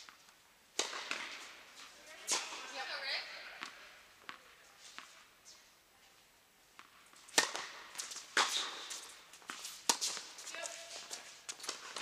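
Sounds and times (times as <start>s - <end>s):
tennis balls bouncing on court: 0.0s - 5.3s, 6.7s - 12.0s
tennis balls hit by rackets: 0.0s - 5.6s, 6.7s - 12.0s.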